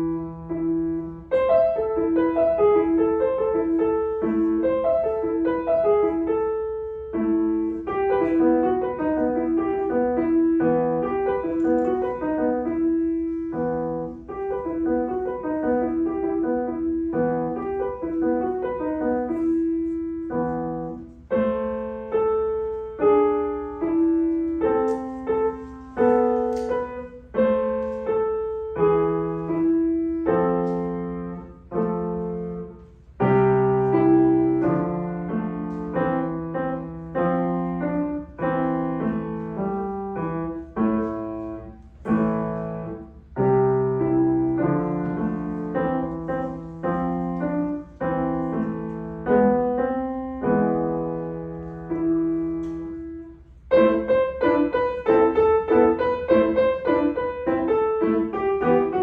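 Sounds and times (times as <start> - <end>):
solo piano piece: 0.0 - 59.0.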